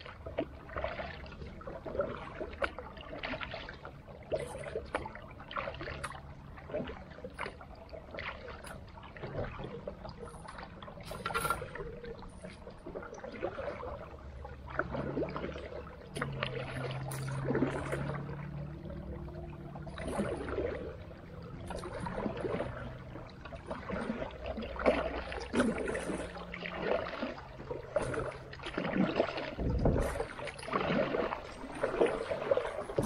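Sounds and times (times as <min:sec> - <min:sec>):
creek water moving: 0:00.0 - 0:33.0
low steady hum: 0:00.0 - 0:33.0.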